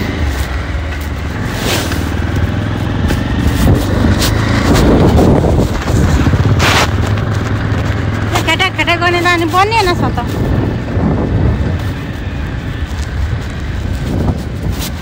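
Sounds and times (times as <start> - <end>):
motorbike engine humming: 0.0 - 15.0
whooshes of passing traffic: 0.0 - 15.0.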